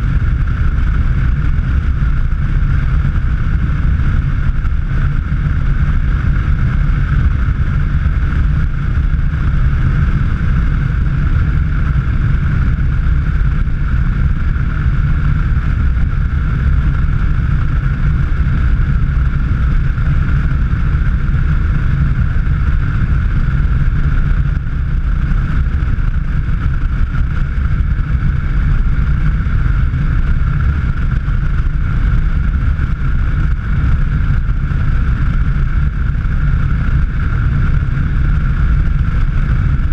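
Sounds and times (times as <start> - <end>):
steady higher hum: 0.0 - 39.9
vehicle engine and tyre rumble: 0.0 - 39.9
wind: 0.0 - 39.9.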